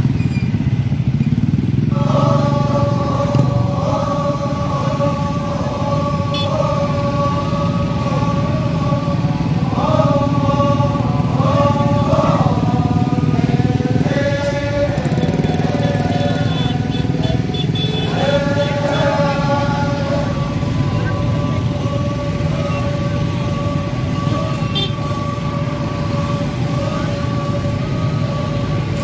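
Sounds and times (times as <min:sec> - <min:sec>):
scooters and motorcycles passing: 0:00.0 - 0:29.0.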